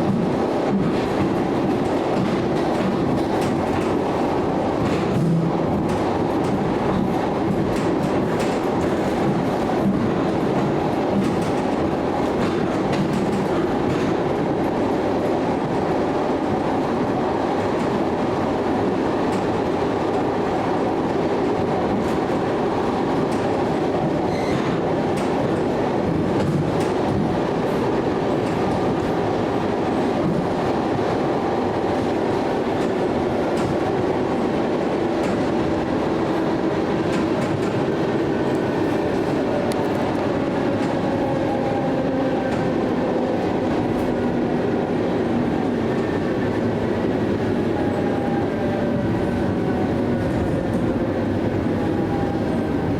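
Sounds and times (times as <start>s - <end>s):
clickety-clack over rail joints: 0.0s - 52.9s
train wheels rumbling on rails: 0.0s - 52.9s.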